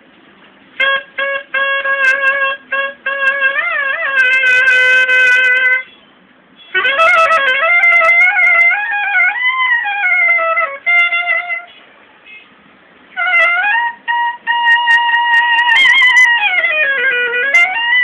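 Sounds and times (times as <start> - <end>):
unaccompanied clarinet playing: 0.8 - 5.9, 6.7 - 11.8, 13.1 - 18.0.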